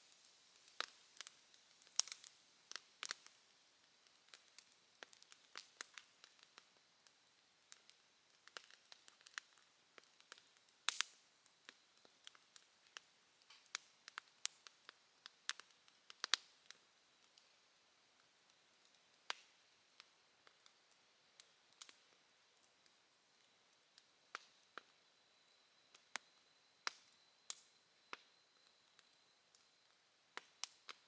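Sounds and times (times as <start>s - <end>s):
bonfire crackling: 0.0s - 31.0s.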